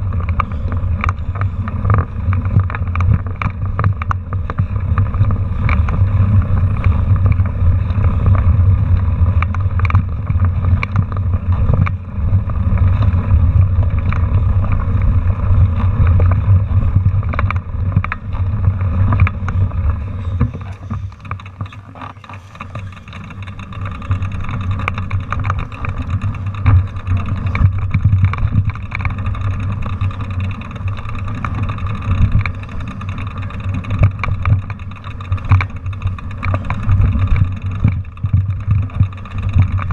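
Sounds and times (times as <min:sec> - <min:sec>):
bike clattering over rough trail: 0:00.0 - 0:39.9
wind rumble on microphone: 0:00.0 - 0:39.9.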